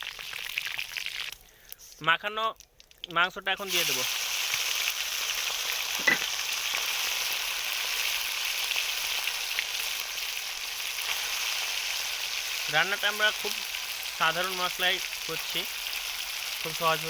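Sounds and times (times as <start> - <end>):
meat sizzling in hot oil: 0.0 - 1.4, 3.5 - 17.0.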